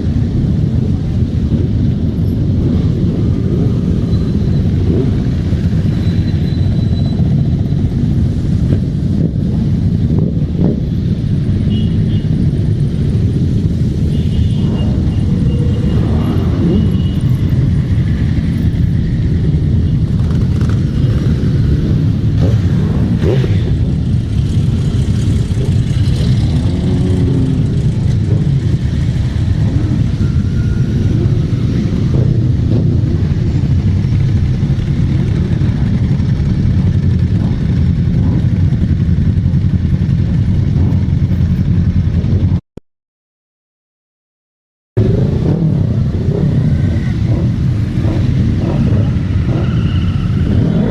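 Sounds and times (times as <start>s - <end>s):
motorcycle engines running: 0.0s - 42.6s, 45.0s - 50.9s.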